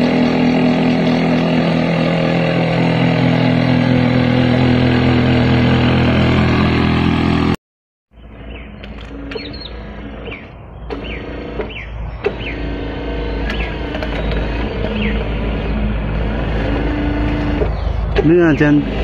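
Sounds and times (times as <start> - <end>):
toy excavator motor droning: 0.0 - 6.8, 8.2 - 19.0.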